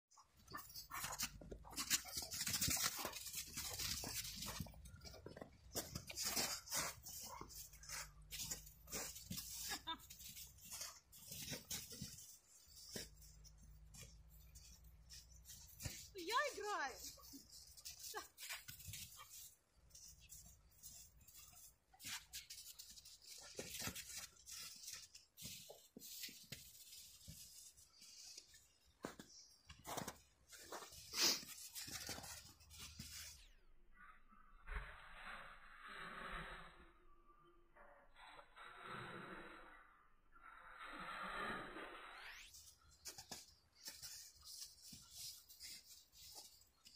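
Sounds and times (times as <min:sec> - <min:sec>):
paws and boots crunching snow: 0:00.2 - 0:33.5, 0:42.5 - 0:46.9.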